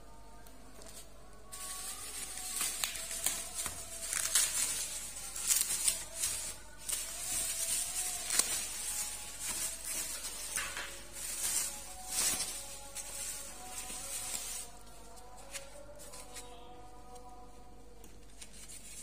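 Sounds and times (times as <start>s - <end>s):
bubble wrap crinkling: 0.4s - 19.0s.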